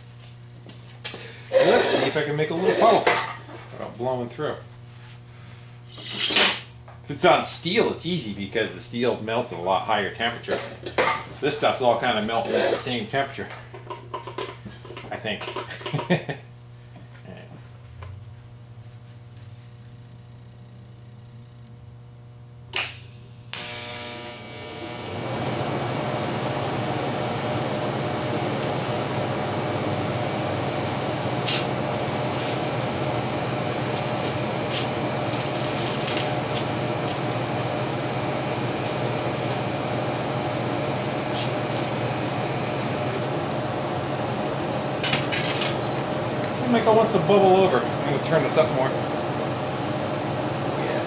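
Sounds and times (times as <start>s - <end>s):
welding arc buzzing hiss: 0.0s - 51.0s.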